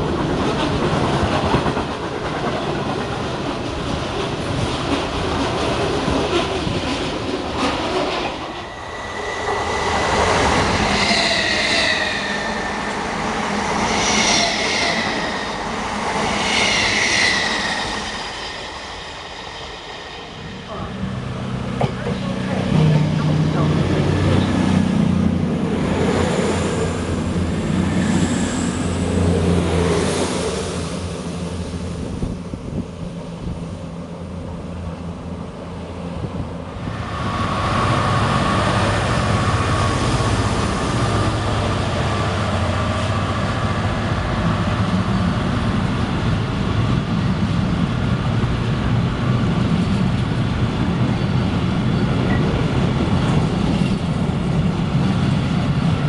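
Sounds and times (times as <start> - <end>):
express train passing: 0.0 - 56.0
diesel locomotive droning: 8.0 - 56.0.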